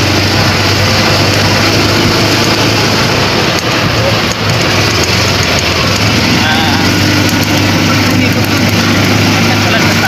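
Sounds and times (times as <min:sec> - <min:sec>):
road and wind noise: 0:00.0 - 0:10.0
vehicle engine humming: 0:00.0 - 0:10.0.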